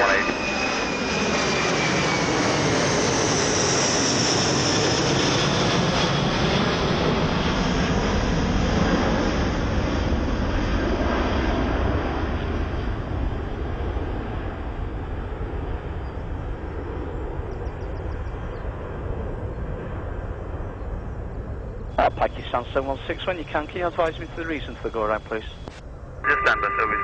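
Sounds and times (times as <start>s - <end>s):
jet engines roaring with whine: 0.0s - 27.0s.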